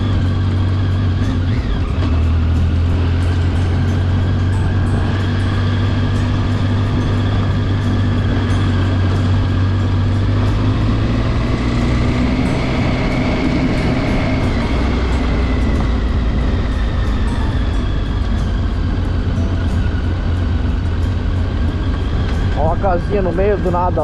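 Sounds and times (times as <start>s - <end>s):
motorcycle engine running: 0.0s - 24.0s
wind noise: 0.0s - 24.0s.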